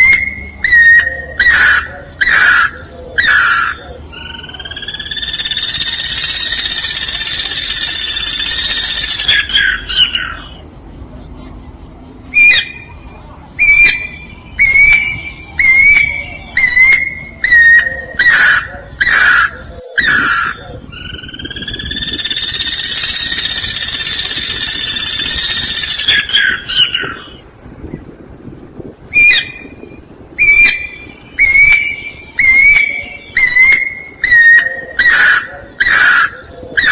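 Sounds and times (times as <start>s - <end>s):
bird whistled calls: 0.0s - 10.6s, 12.3s - 28.0s, 29.1s - 36.9s.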